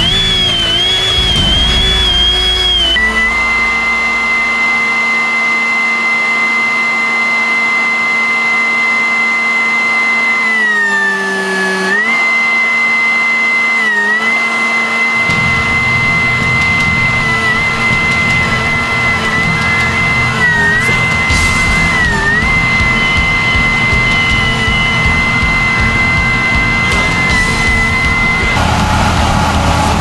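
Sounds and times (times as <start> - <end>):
machine motor whining: 0.0 - 30.0.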